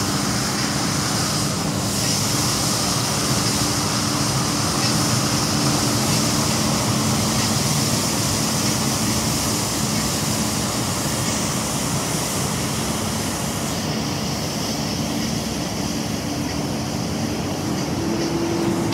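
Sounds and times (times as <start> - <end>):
hiss of air and brushes: 0.0 - 18.9
street sweeper engine hum: 0.0 - 18.9.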